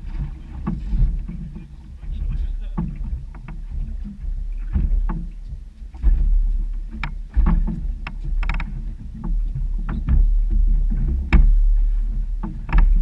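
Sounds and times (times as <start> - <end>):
water slapping boat hull: 0.0 - 13.0
sharp knocks: 0.2 - 13.0.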